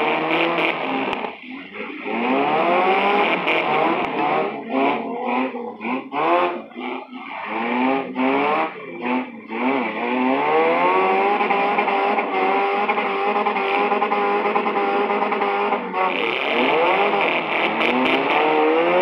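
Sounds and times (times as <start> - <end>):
car engines revving: 0.0 - 19.0
engine droning at high revs: 0.0 - 19.0.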